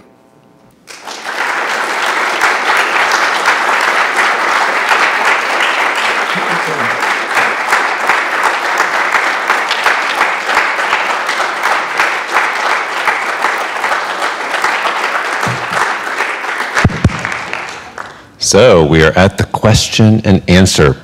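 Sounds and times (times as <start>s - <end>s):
audience applauding: 0.8s - 18.3s.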